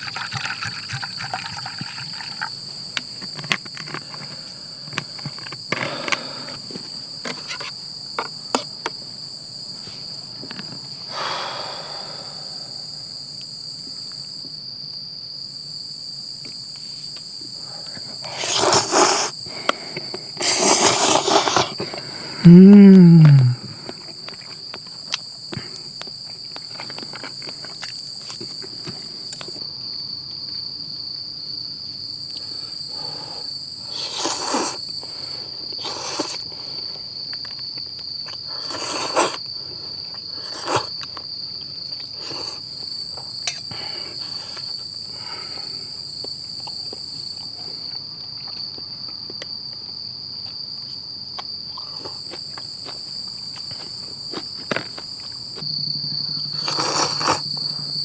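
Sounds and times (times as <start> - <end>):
higher insect call: 0.0 - 49.0, 51.4 - 58.0
crickets trilling: 0.0 - 58.0.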